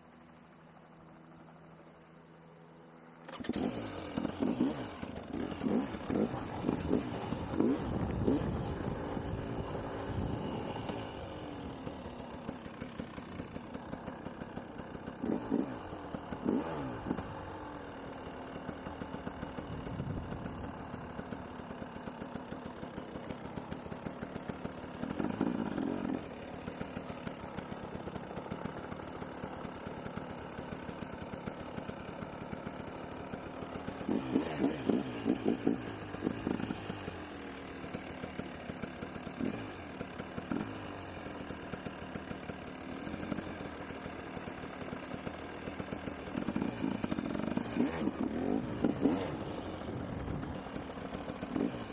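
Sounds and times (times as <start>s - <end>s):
dirt bike engine idling: 0.0s - 51.9s.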